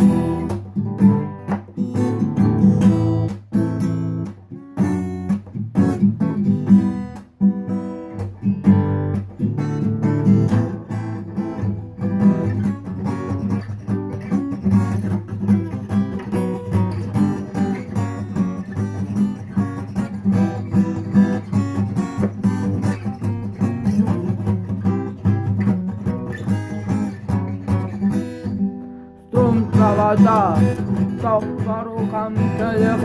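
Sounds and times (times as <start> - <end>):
acoustic guitar strummed: 0.0 - 33.0.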